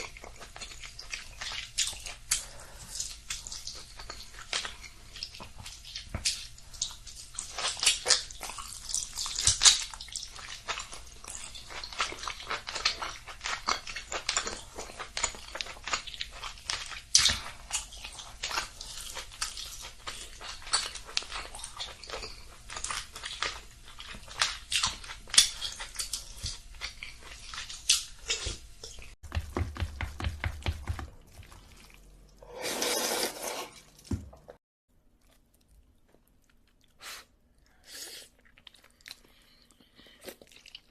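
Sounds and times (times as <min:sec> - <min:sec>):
crunching and chewing: 0:00.0 - 0:29.2, 0:35.1 - 0:40.9.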